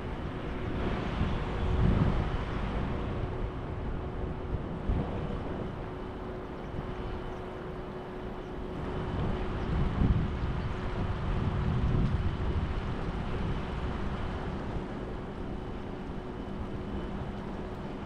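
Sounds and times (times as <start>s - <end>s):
faint hum: 0.0s - 18.0s
wind on microphone: 0.0s - 18.0s.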